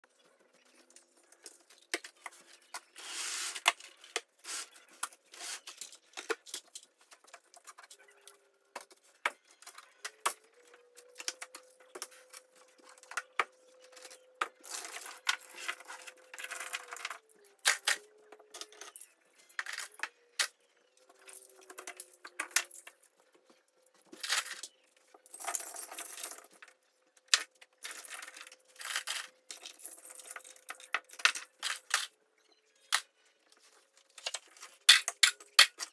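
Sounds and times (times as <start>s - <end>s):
toy cars clattering: 1.3s - 23.1s, 24.0s - 32.2s, 34.1s - 35.9s.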